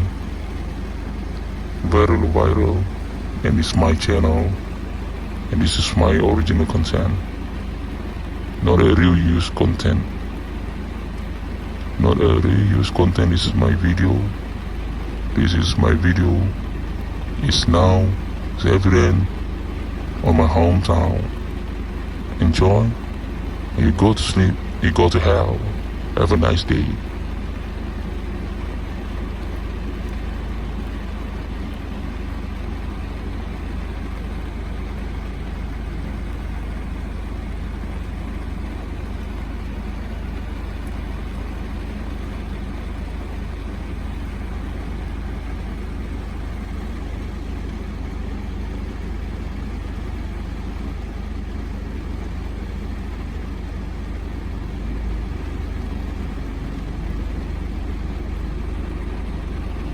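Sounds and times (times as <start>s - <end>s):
deep rumble: 0.0s - 59.9s
heavy rain falling: 0.0s - 59.9s.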